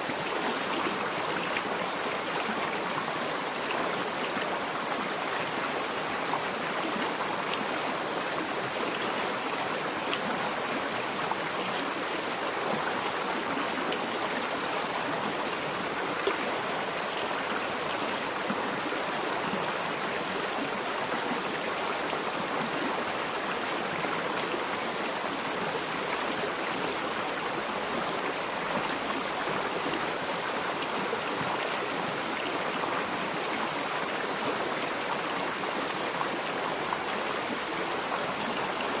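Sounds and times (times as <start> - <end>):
river flowing over stones: 0.0 - 39.0.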